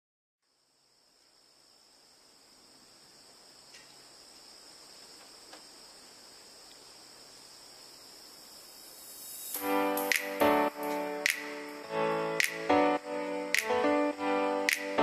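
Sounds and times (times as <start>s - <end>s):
cicadas buzzing: 0.4s - 15.0s.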